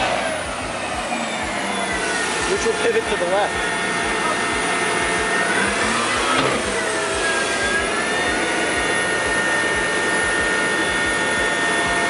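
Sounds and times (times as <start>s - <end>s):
tank engine whining under load: 0.0s - 12.0s.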